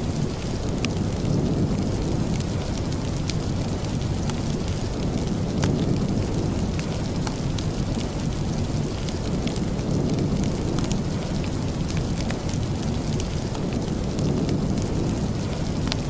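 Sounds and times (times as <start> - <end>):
steady rain falling: 0.0 - 16.0
wood fire crackling: 0.0 - 16.0.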